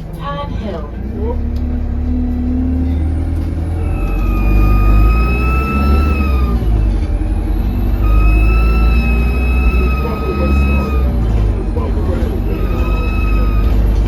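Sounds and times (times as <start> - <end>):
bus diesel engine rumbling: 0.0 - 14.0
turbo whistling whine: 1.6 - 14.0.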